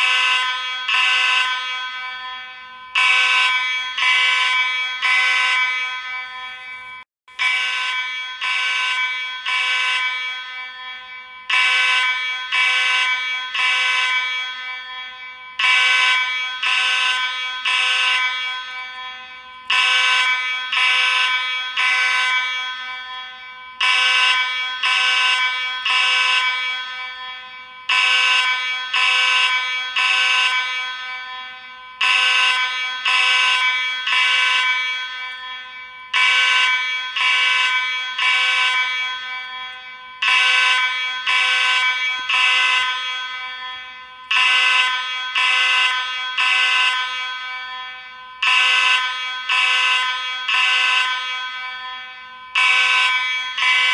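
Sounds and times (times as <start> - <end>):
fire alarm horn blasts: 0.0 - 53.9.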